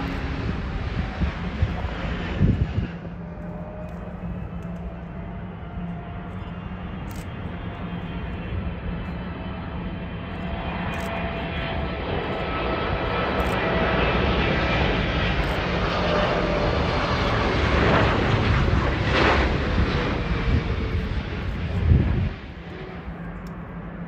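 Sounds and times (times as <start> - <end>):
jet engines rushing and whining: 0.0 - 24.0.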